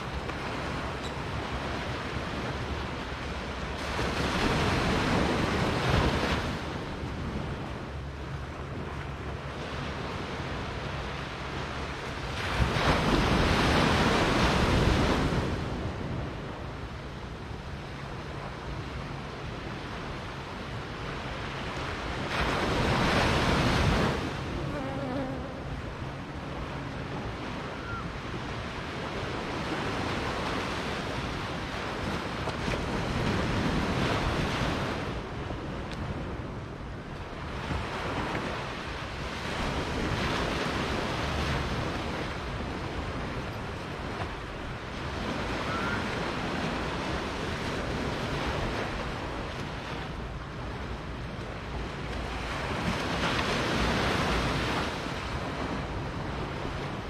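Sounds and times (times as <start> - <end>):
small waves washing on sand: 0.0 - 7.8, 8.5 - 16.7, 17.4 - 57.0.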